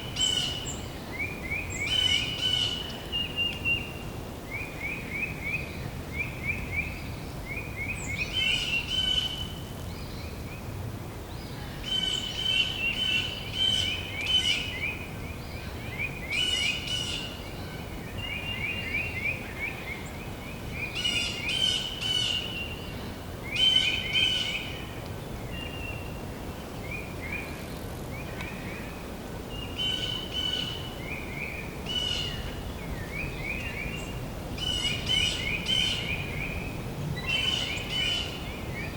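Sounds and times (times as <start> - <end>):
low background hiss: 0.0 - 38.9
songbirds trilling and chirping: 0.0 - 38.9.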